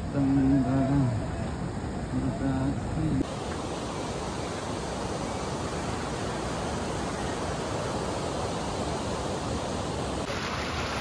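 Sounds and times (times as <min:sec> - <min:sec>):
fast-flowing river water rushing: 0:00.0 - 0:11.0.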